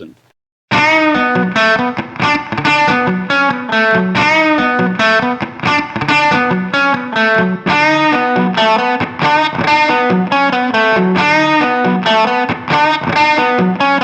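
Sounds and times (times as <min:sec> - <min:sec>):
overdriven electric guitar riff: 0:00.7 - 0:14.0.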